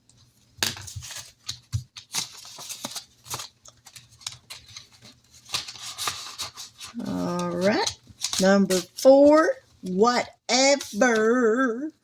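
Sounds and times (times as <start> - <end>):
paper rustling and crinkling: 0.0 - 9.9.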